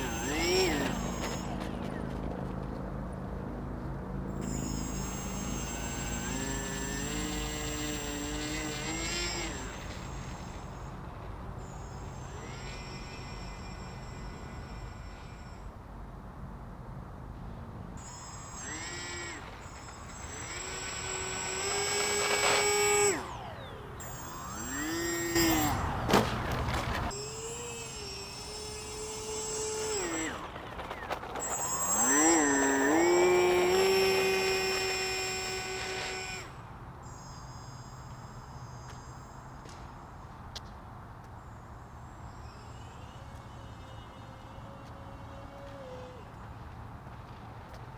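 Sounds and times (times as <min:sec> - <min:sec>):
rc plane motor and propeller whining: 0:00.0 - 0:47.9.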